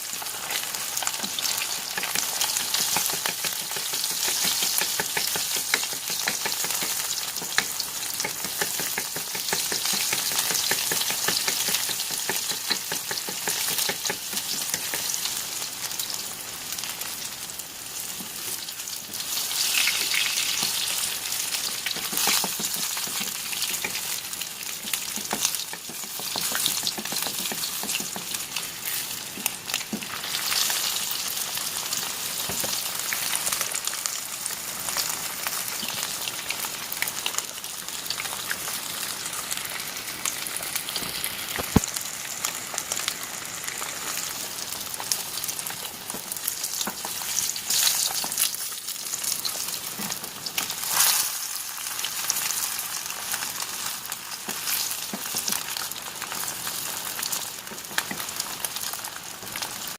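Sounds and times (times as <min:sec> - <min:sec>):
fish frying in hot oil: 0:00.0 - 0:59.9.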